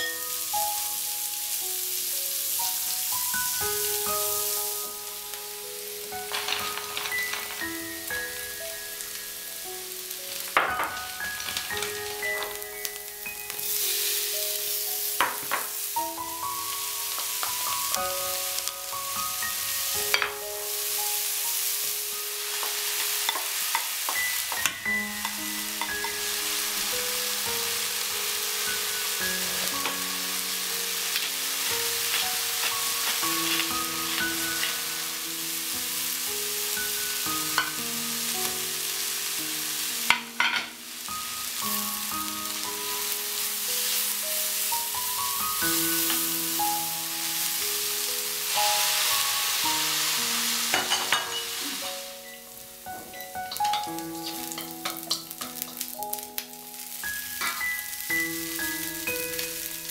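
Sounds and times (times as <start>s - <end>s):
food sizzling in a pan: 0.0s - 59.9s
melodic background music: 0.0s - 59.9s.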